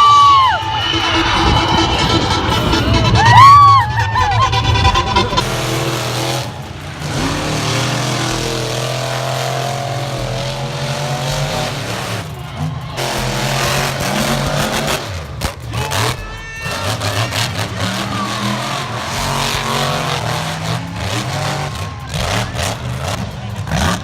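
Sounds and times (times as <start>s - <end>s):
racing engines droning: 0.0s - 24.0s.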